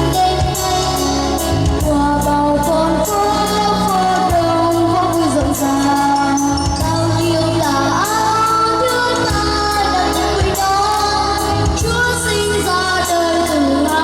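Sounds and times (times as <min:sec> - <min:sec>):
bass notes and steady beat: 0:00.0 - 0:14.0
woman singing: 0:00.0 - 0:14.0.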